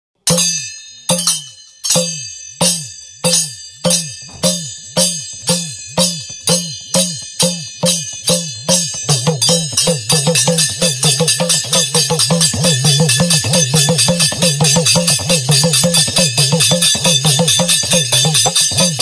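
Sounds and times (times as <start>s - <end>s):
metallic jingle: 0.2s - 19.0s
folk drum strikes: 2.0s - 19.0s.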